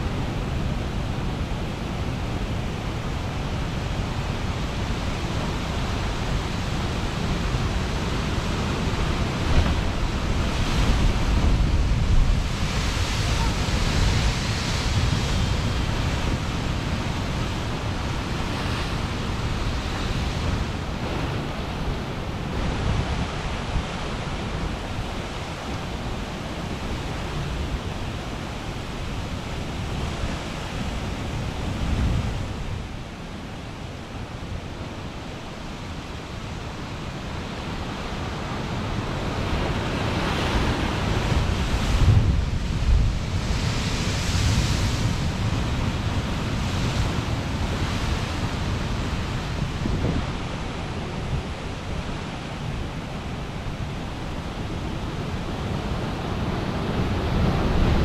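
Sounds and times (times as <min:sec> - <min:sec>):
wind buffeting microphone: 0:00.0 - 0:33.4, 0:36.1 - 0:58.0
surf crashing against rocks: 0:02.0 - 0:32.9, 0:36.4 - 0:58.0.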